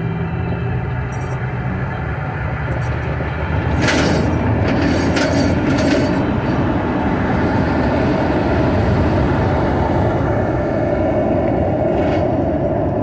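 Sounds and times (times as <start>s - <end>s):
road and tyre rumble in car: 0.0s - 13.0s.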